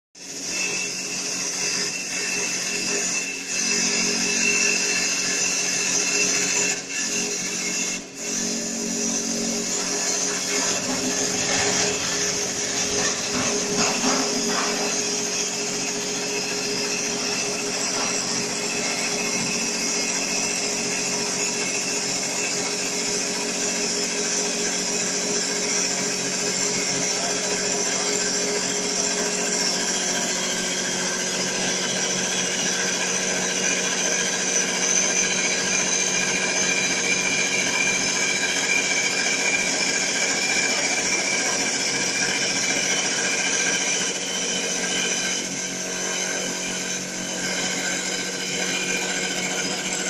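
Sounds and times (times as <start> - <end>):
cutter shaving spinning wood: 0.2 - 50.0
lathe machine whining: 0.2 - 50.0.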